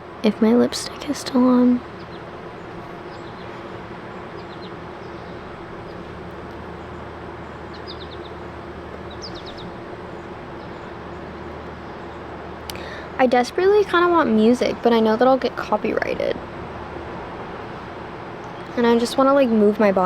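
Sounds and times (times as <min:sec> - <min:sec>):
background hum: 0:00.0 - 0:20.0
songbirds chirping: 0:00.0 - 0:20.0.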